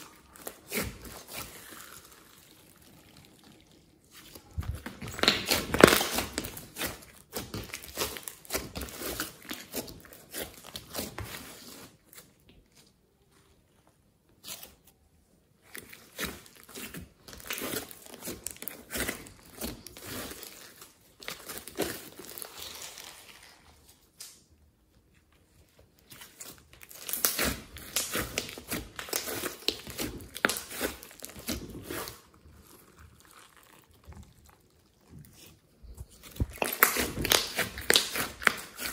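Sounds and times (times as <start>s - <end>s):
slime crackling and popping: 0.0s - 11.9s, 15.7s - 24.4s, 26.0s - 38.9s.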